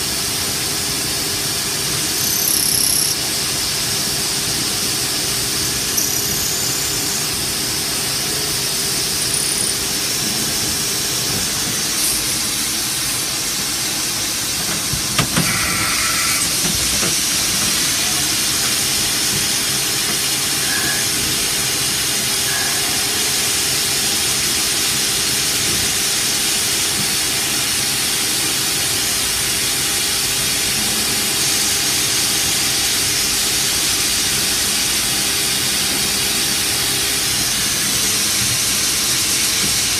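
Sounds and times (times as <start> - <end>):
milling machine running: 0.0 - 39.9.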